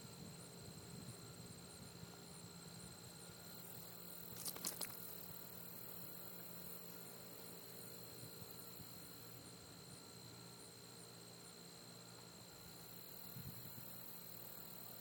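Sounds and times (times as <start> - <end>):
faint steady hum and hiss: 0.0 - 15.0.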